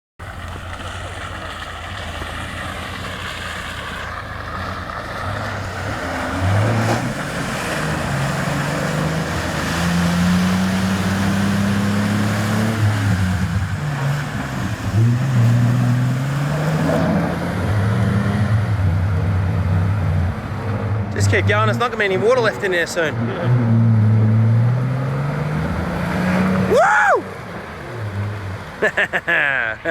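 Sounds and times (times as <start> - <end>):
water and mud splashing: 0.2 - 29.9
vehicle engine revving: 0.3 - 29.9.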